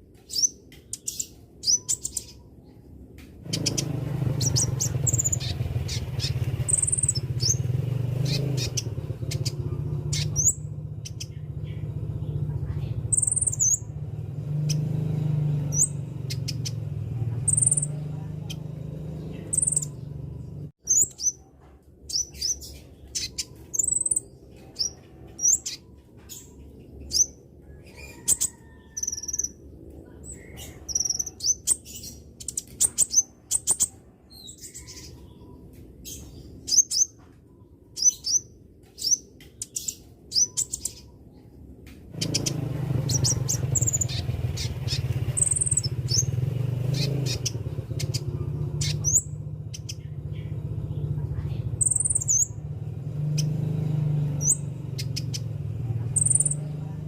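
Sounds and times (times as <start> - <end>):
bird chirping: 0.0 - 57.0
low rumbling background noise: 0.0 - 57.0.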